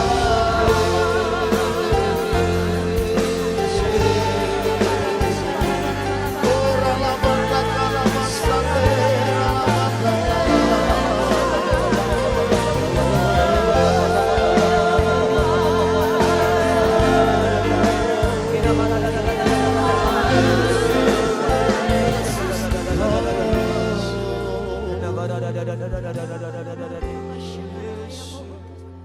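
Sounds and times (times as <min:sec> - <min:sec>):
worship band playing slow song: 0:00.0 - 0:29.0.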